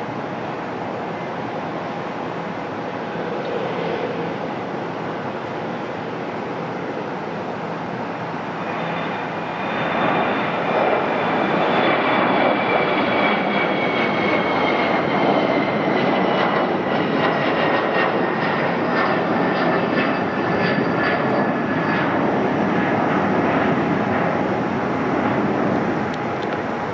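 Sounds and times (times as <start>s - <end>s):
jet engine high whine: 0.0s - 26.9s
jet engines roaring at takeoff: 0.0s - 26.9s.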